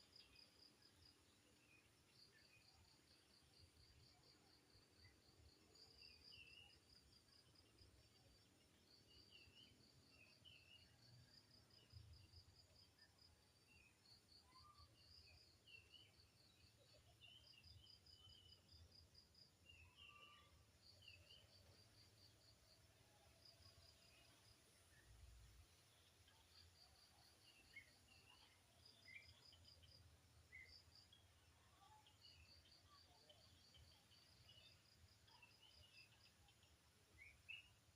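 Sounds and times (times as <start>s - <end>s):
insects chirping: 0.0s - 37.9s.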